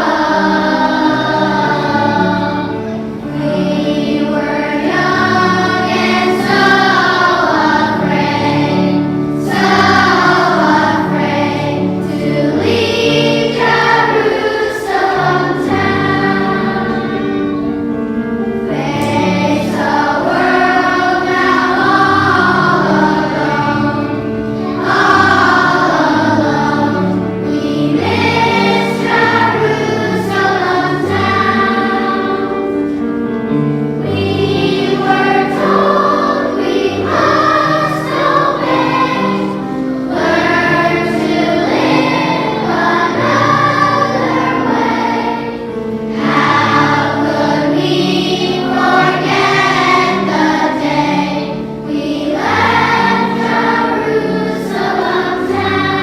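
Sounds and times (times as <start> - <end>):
children's choir singing: 0.0 - 56.0
instrumental accompaniment: 0.0 - 56.0.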